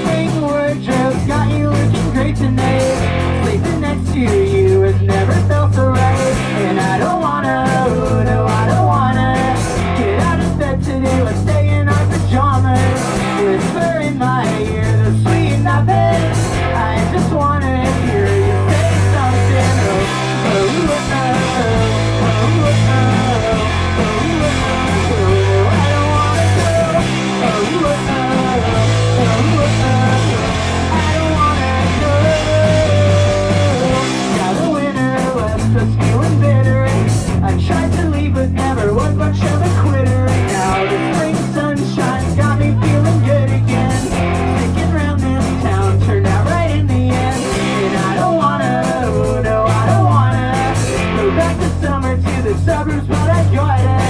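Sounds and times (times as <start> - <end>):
drums: 0.0 - 54.0
live rock band playing: 0.0 - 54.0.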